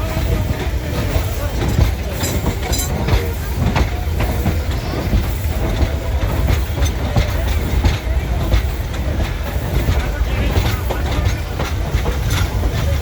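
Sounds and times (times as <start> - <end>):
train rumbling along track: 0.0 - 13.0
wheels clacking: 0.0 - 13.0.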